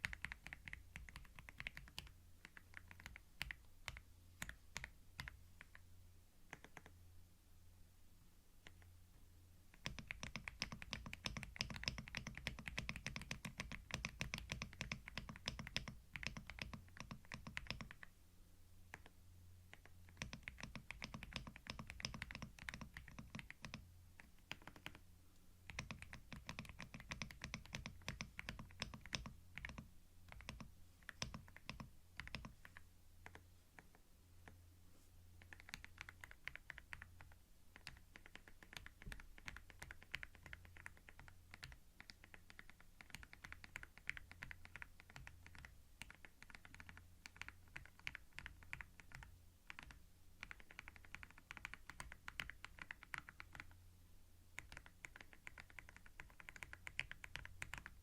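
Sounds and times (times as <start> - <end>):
computer keyboard key clicks: 0.0 - 5.8, 9.8 - 18.1, 19.7 - 25.0, 25.7 - 33.4, 35.4 - 53.7, 54.6 - 58.0.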